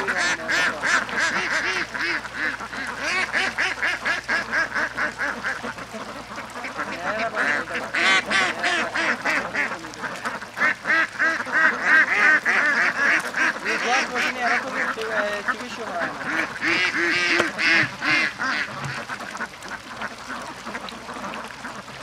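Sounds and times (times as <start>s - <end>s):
chorus of nasal animal calls: 0.0s - 22.0s.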